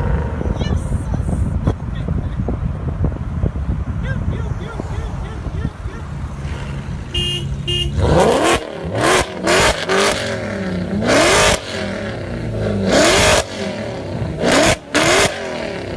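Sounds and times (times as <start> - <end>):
car engine revving: 1.5 - 15.9.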